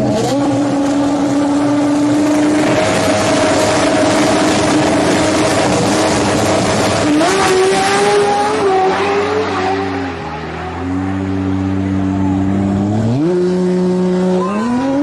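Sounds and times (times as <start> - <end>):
car engine at high revs: 0.0 - 15.0.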